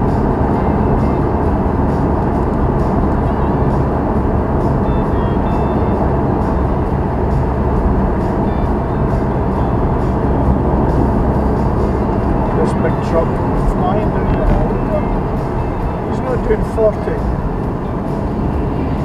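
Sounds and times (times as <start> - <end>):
car cabin road and engine noise: 0.0 - 19.0.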